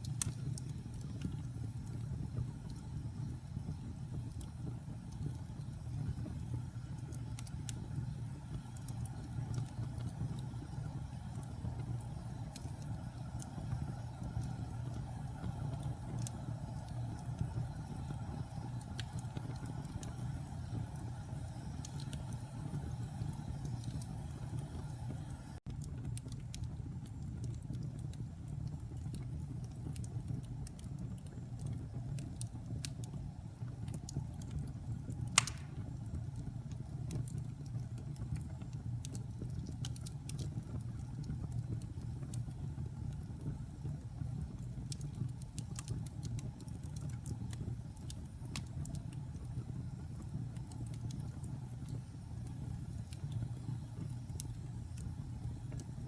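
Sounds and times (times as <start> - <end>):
fire crackles and pops: 0.0 - 56.0
wood fire roaring: 0.0 - 56.0.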